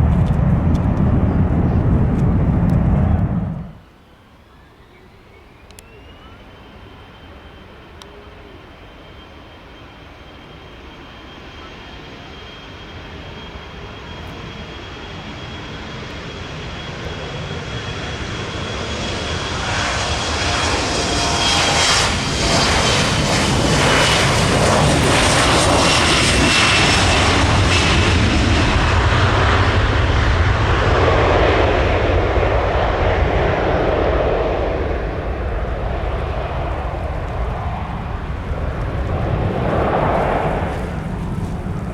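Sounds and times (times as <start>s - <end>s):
jet engines at takeoff power: 0.0s - 41.9s.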